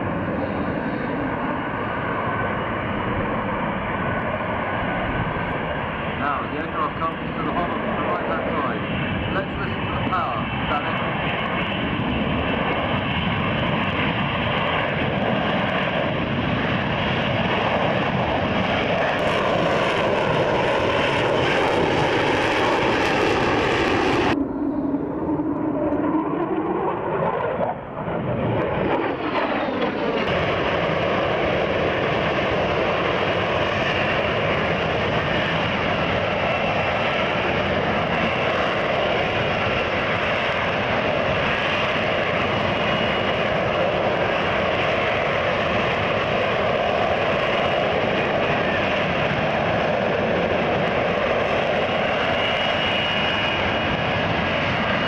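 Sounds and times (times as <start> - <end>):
jet engine roaring: 0.0 - 55.0.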